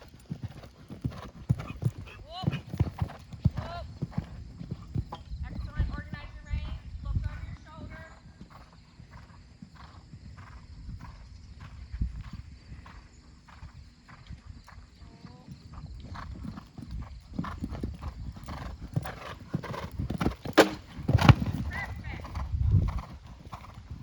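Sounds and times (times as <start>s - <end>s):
horse hoofbeats on arena footing: 0.0s - 24.0s.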